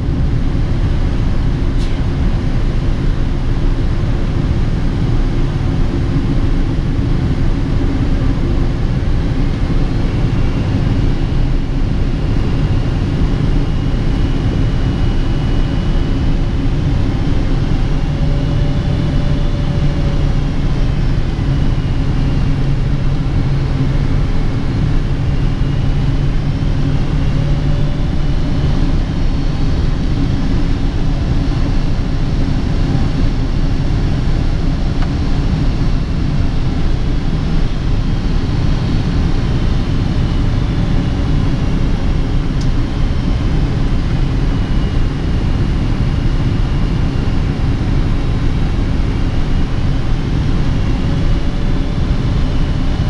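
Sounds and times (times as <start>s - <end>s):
airplane cabin roar: 0.0s - 53.0s
low hum: 0.0s - 53.0s.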